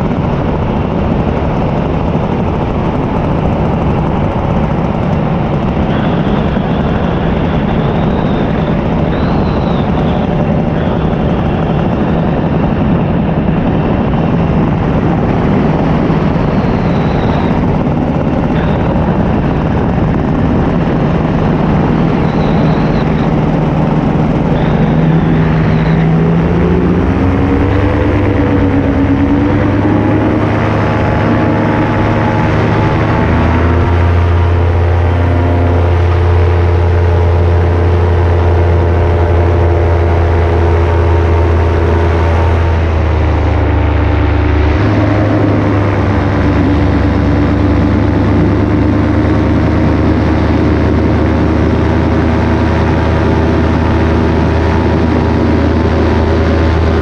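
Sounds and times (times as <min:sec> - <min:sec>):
paramotor engine and propeller: 0:00.0 - 0:57.0
wind rushing over microphone: 0:00.0 - 0:57.0.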